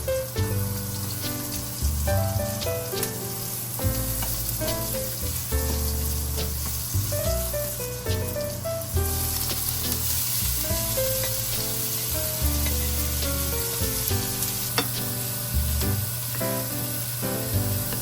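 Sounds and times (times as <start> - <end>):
bacon sizzling in a pan: 0.0 - 18.0.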